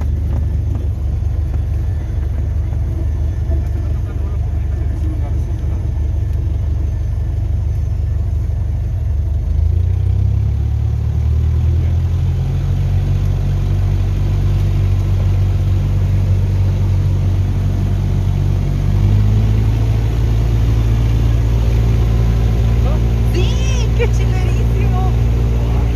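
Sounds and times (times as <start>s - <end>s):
light aircraft engine droning: 0.0s - 25.9s.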